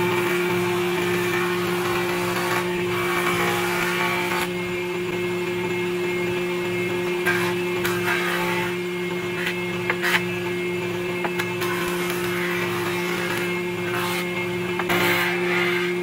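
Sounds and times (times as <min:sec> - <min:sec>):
blades planing wood: 0:00.0 - 0:16.0
woodworking machine humming: 0:00.0 - 0:16.0.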